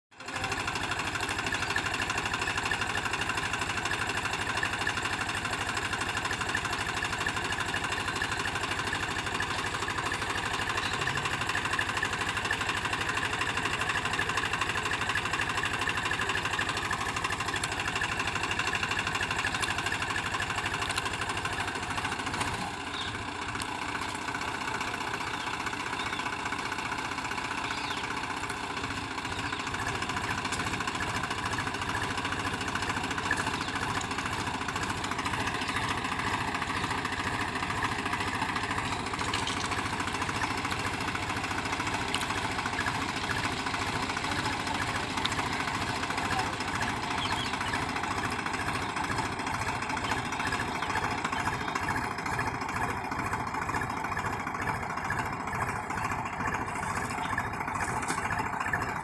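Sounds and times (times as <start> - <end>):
tractor diesel engine running: 0.1 - 59.0.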